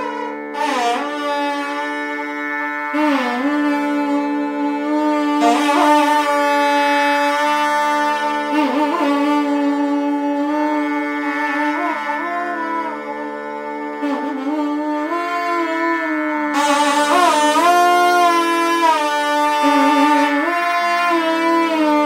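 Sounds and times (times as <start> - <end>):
steady drone: 0.0 - 21.9
reed pipes playing melody: 0.0 - 22.0.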